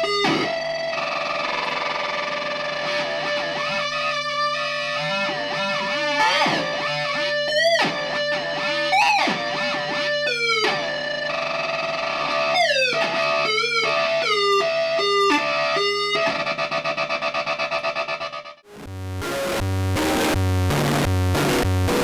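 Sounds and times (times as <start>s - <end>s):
distorted synth tones: 0.0s - 22.0s.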